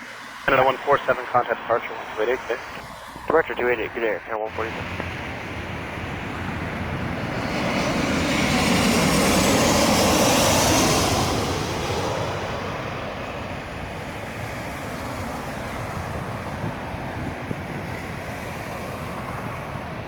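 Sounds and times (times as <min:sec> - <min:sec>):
jet engines roaring past: 0:00.0 - 0:20.0.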